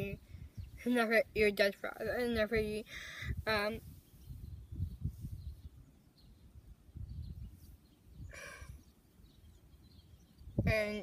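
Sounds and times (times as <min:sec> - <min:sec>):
faint bird chirps: 0:00.0 - 0:01.3, 0:02.2 - 0:11.0
low rumble on microphone: 0:00.0 - 0:11.0.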